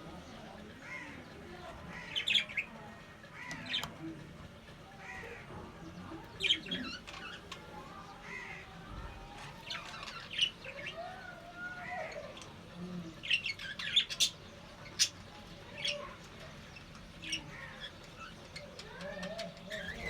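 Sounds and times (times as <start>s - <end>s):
budgerigars chirping and warbling: 0.0s - 20.0s.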